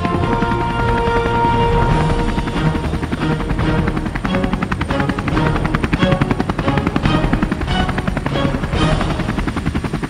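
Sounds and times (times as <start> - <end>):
cartoon helicopter rotor chop: 0.0 - 10.0.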